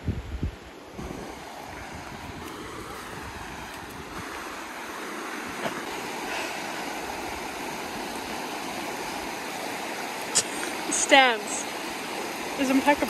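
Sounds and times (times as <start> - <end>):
river rushing over stones: 0.6 - 13.0.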